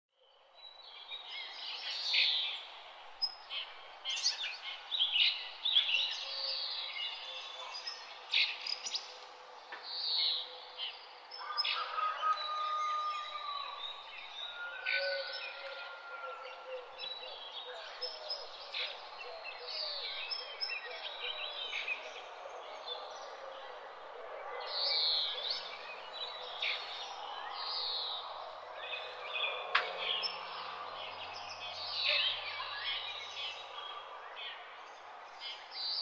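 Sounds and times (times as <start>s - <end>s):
birds chirping and trilling: 0.2s - 36.0s.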